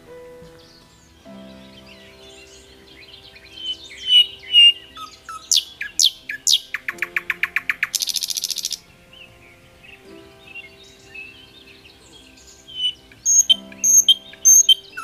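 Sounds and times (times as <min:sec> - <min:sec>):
faint background music: 0:00.0 - 0:15.0
songbird singing: 0:00.0 - 0:15.0.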